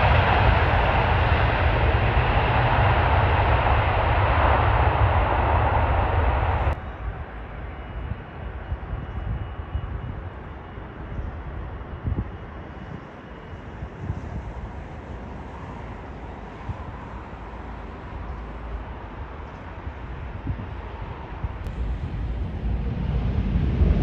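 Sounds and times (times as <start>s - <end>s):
distant jet engines: 0.0s - 24.0s
wind rumble on microphone: 0.0s - 24.0s.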